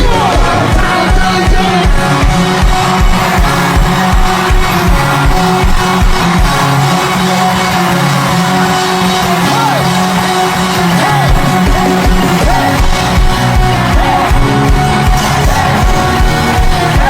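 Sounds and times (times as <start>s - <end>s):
drum beat: 0.0s - 17.0s
keyboard chords: 0.0s - 17.0s
voices calling out and singing: 0.0s - 17.0s.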